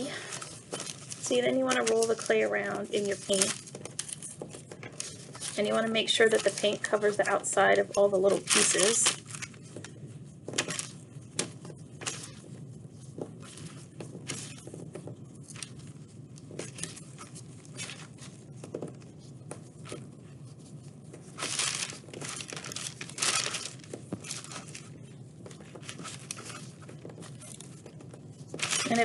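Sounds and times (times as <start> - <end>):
paper and gloves crinkling: 0.0 - 29.0.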